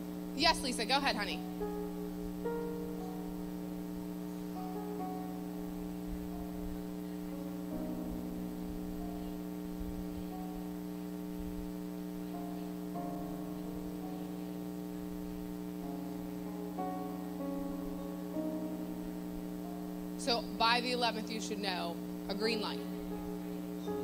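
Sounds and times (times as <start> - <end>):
keyboard chords: 0.0 - 24.0.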